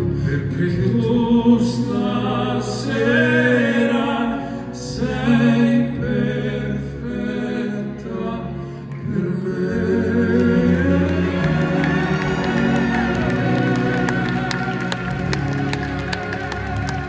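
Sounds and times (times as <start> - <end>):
men singing operatically: 0.0 - 16.0
symphony orchestra: 0.0 - 17.0.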